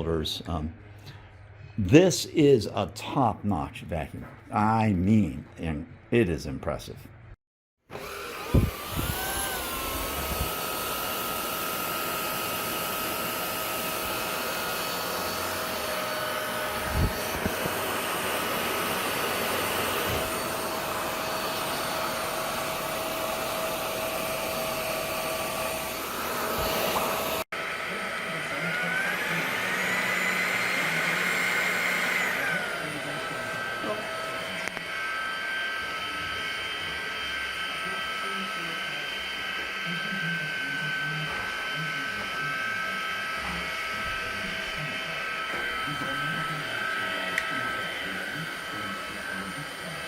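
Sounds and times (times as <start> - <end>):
vacuum motor whine: 7.9 - 50.0.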